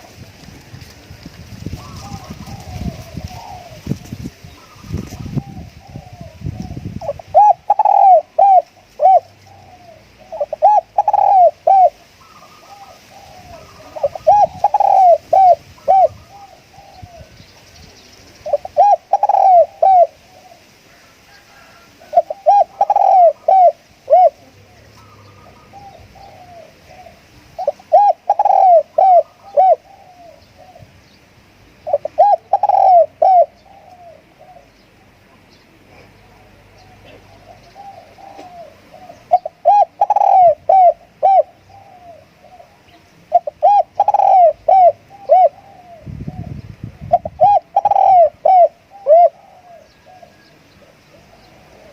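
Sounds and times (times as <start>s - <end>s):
dove cooing: 0.0s - 17.6s, 18.4s - 31.1s, 31.7s - 51.9s.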